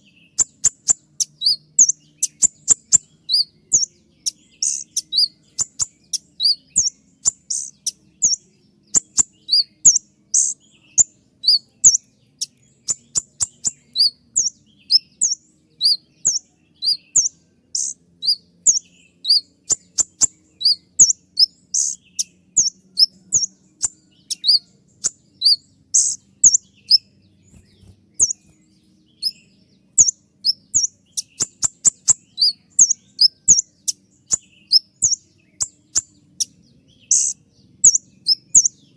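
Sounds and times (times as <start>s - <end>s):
bird high-pitched chirps: 0.0s - 38.9s.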